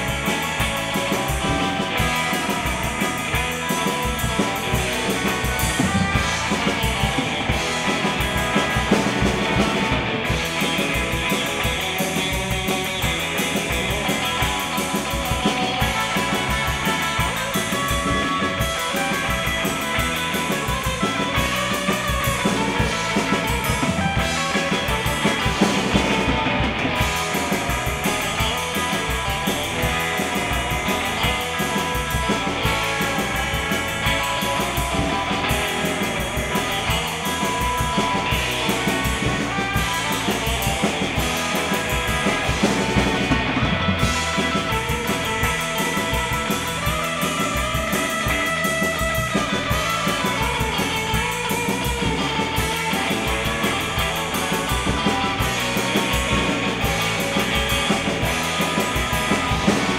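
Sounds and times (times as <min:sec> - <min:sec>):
rock music with guitar and drums: 0:00.0 - 0:59.9.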